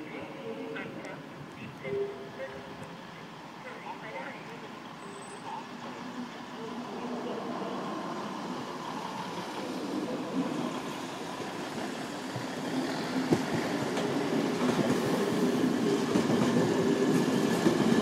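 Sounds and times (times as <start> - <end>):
trains rolling on tracks: 0.0 - 18.0.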